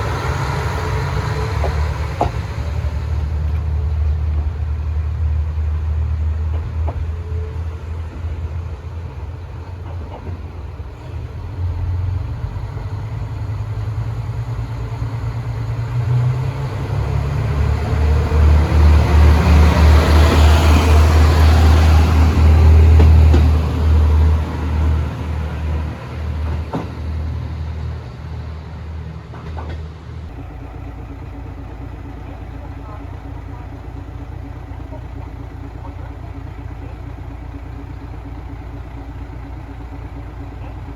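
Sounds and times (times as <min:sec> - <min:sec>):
railcar engine humming: 0:00.0 - 0:40.9.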